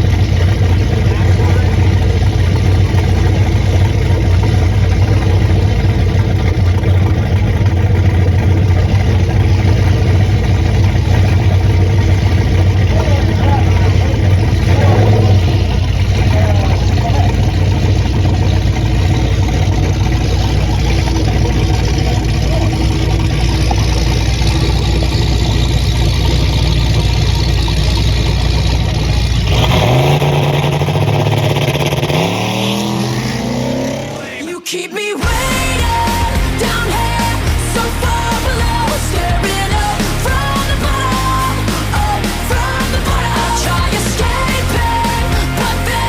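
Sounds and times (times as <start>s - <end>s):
car engine accelerating: 0.0s - 34.5s, 35.2s - 46.0s.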